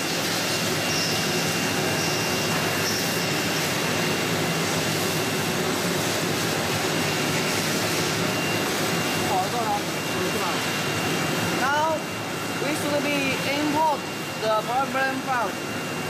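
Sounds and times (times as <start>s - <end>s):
machinery whirring with high whine: 0.0s - 16.0s.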